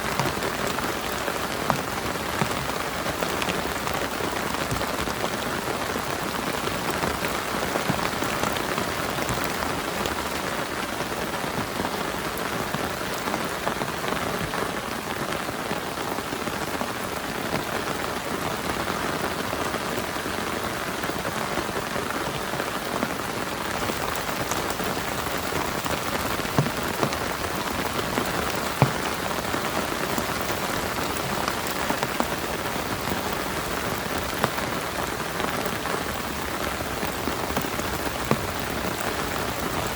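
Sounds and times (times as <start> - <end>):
heavy rain hissing: 0.0 - 39.9
raindrops ticking close by: 0.0 - 39.9.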